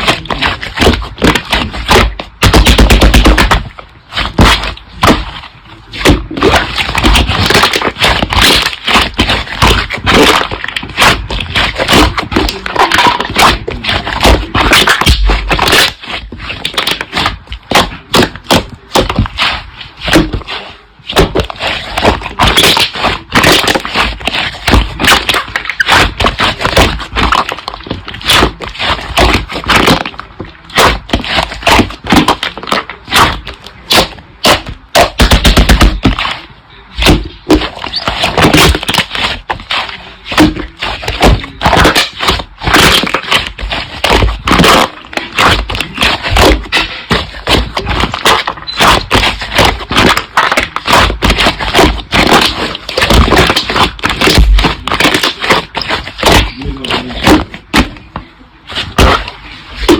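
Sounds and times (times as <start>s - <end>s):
slime crackling and popping: 0.0s - 59.9s.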